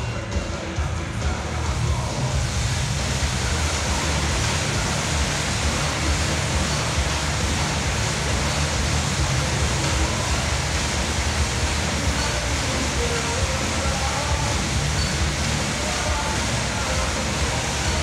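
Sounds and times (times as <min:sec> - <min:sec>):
exercise bike fan whooshing: 0:00.8 - 0:18.0.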